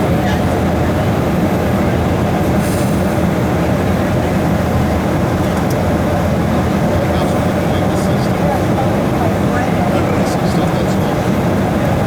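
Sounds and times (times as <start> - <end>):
airplane cabin hum: 0.0 - 12.0.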